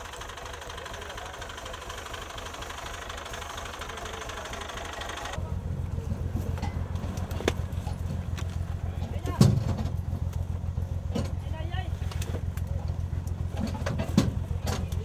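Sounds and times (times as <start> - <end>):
deep engine rumble: 0.0 - 15.0
tractor engine running: 0.0 - 15.0.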